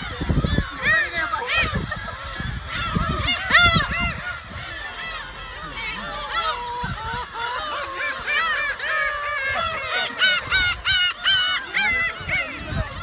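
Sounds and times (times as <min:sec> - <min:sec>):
flock of gulls calling: 0:00.0 - 0:13.0.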